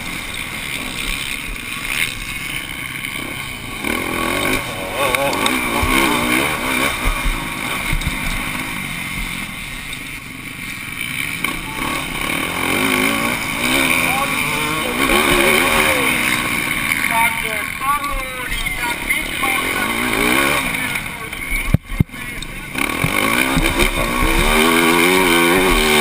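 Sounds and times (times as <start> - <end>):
motocross bike engine: 0.0 - 26.0.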